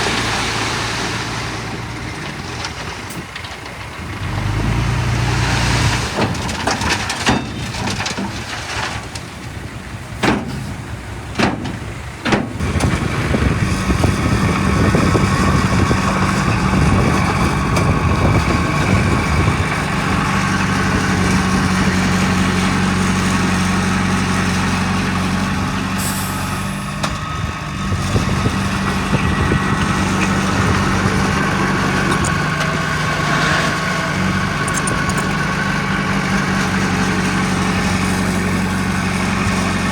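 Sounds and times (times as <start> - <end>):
heavy diesel engine under load: 0.0 - 39.9.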